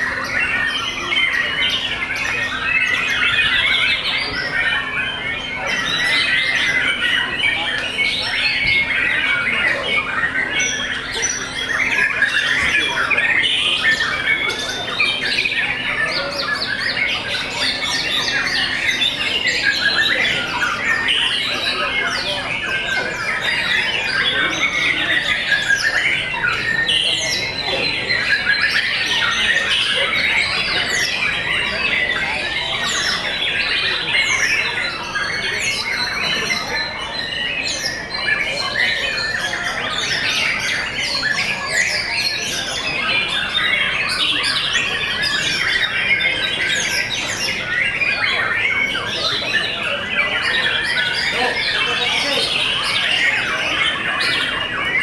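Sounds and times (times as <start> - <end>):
chorus of birds singing: 0.0 - 55.0.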